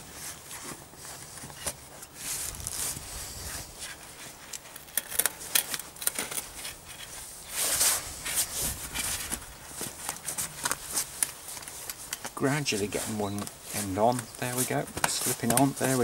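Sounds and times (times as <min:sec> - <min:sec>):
nylon jacket rustling: 0:00.0 - 0:04.5, 0:06.7 - 0:16.0.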